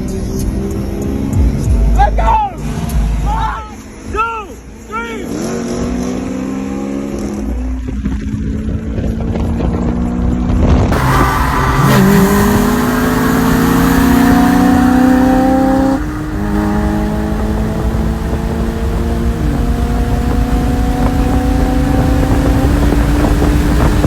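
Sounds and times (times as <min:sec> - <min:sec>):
car engine accelerating: 0:00.0 - 0:04.1, 0:05.2 - 0:24.0.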